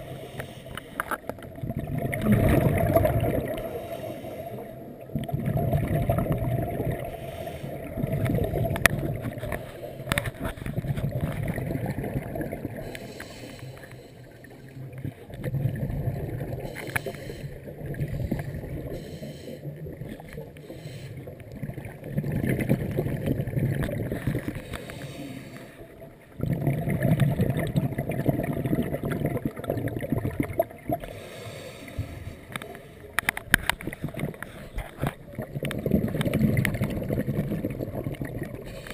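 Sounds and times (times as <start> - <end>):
muffled underwater bubbles exhaled: 0.0 - 38.9.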